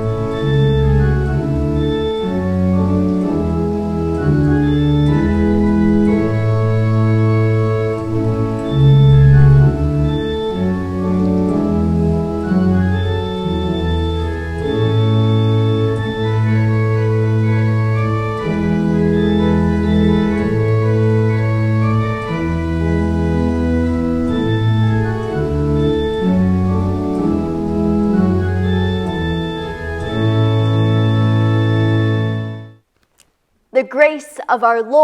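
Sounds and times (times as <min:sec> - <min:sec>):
organ playing a hymn: 0:00.0 - 0:32.8.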